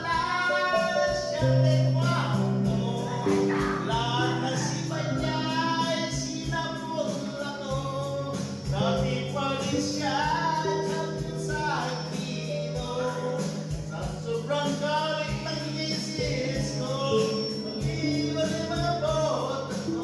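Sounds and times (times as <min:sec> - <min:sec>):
song with singing voices: 0:00.0 - 0:20.0.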